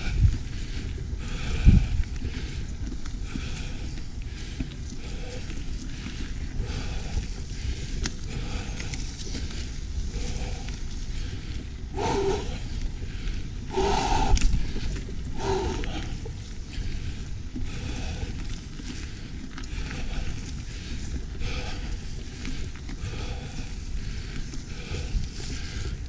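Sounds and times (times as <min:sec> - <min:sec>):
bike tyres on dirt trail: 0:00.0 - 0:26.0
wind rumble on microphone: 0:00.0 - 0:26.0.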